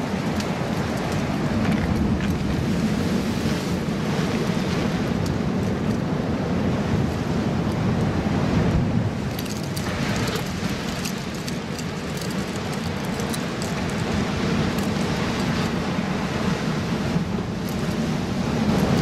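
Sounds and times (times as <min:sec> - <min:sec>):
surf breaking on rocks: 0:00.0 - 0:19.0
wind buffeting microphone: 0:00.0 - 0:19.0.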